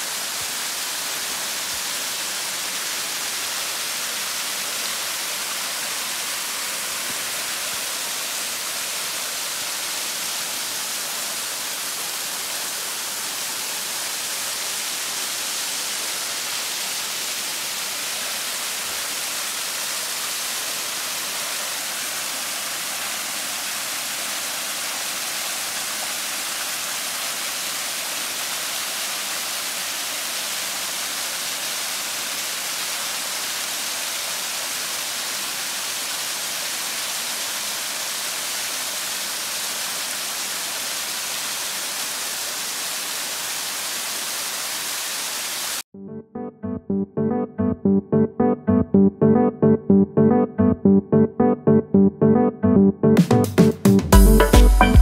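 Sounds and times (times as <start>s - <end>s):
waterfall rushing water: 0.0s - 45.8s.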